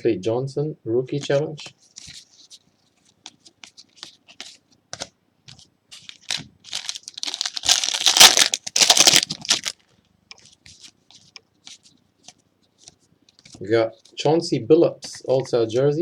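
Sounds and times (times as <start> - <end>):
cards rustling and crinkling: 1.2 - 14.3.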